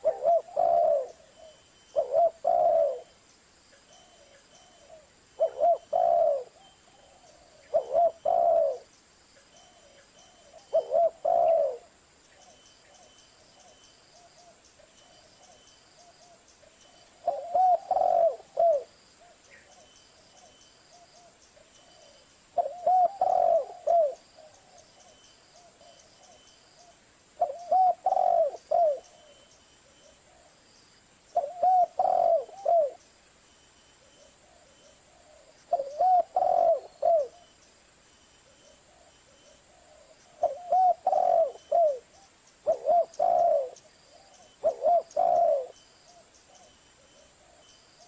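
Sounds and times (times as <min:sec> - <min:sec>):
dove cooing: 0:00.0 - 0:03.2, 0:03.8 - 0:08.9, 0:09.6 - 0:30.6, 0:31.3 - 0:33.0, 0:34.0 - 0:37.5, 0:38.4 - 0:48.0
faint dove cooing: 0:00.0 - 0:30.6, 0:31.3 - 0:33.0, 0:34.0 - 0:37.6, 0:38.4 - 0:48.0.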